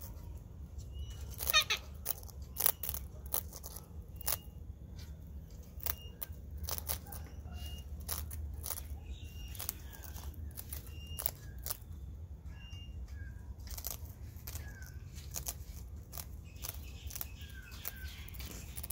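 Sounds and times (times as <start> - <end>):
birds chirping: 0.0 - 18.9
bird crunching a biscuit: 1.1 - 11.9, 13.6 - 18.9.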